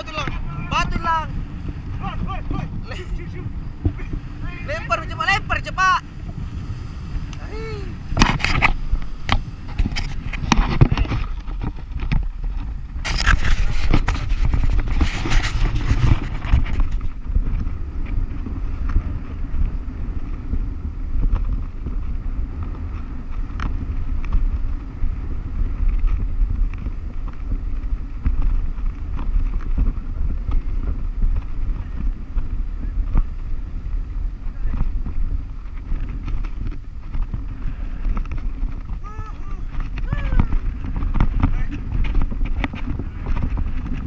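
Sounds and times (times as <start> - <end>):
surf breaking over rocks: 0.0 - 19.4, 27.9 - 44.0
wind rumble on microphone: 0.0 - 44.0.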